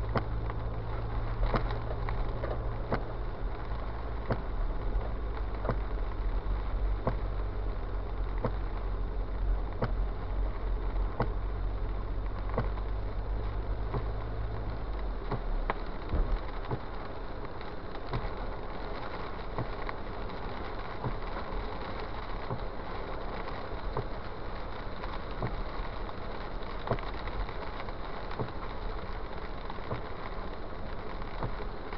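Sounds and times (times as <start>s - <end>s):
low rumble: 0.0s - 30.0s
car road noise on wet road: 0.0s - 31.9s.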